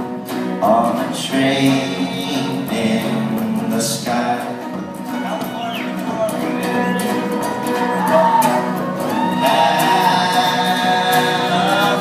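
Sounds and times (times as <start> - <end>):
acoustic folk band music: 0.0 - 12.0
strummed and plucked strings: 0.0 - 12.0
voices singing held notes: 0.6 - 12.0.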